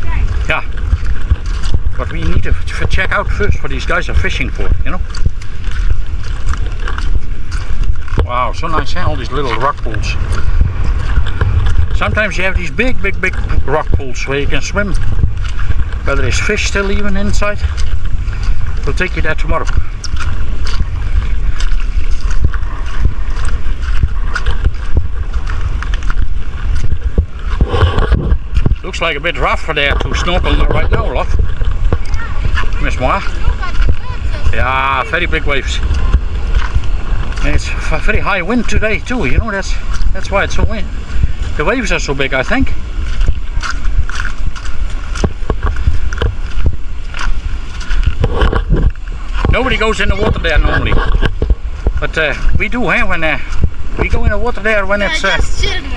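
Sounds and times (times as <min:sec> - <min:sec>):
strong wind buffeting microphone: 0:00.0 - 0:55.9.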